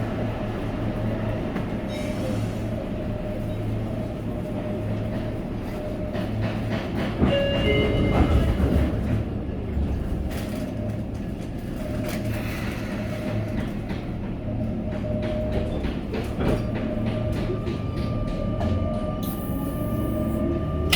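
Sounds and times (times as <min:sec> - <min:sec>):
train wheels rumbling on rail: 0:00.0 - 0:20.9.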